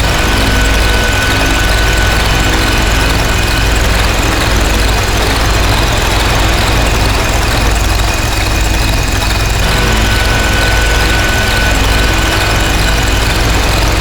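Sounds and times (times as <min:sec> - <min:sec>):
harsh noise drone: 0:00.0 - 0:14.0
thin high whine: 0:00.0 - 0:14.0.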